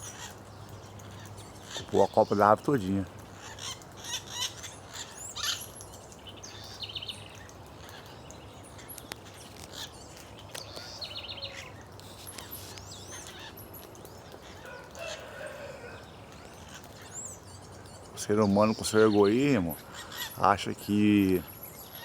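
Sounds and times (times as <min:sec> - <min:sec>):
birds chirping: 0:00.0 - 0:22.0
bird trilling calls: 0:03.2 - 0:22.0.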